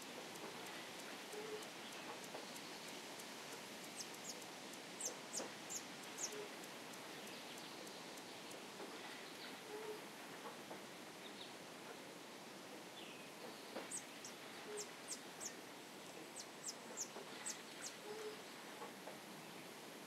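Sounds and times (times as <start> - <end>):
soft hiss: 0.0 - 20.0.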